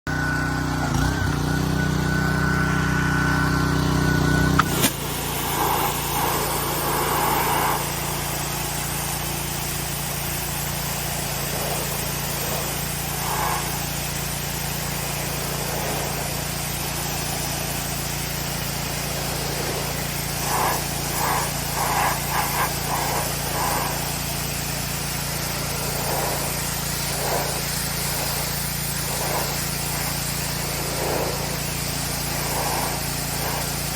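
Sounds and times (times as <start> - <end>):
pressure washer engine hum: 0.1 - 33.9
pressure washer spray hiss: 4.6 - 33.9.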